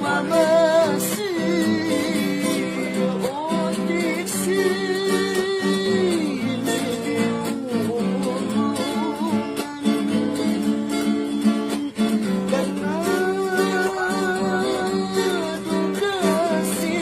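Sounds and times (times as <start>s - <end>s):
guitar accompaniment: 0.0s - 17.0s
person singing: 0.0s - 17.0s.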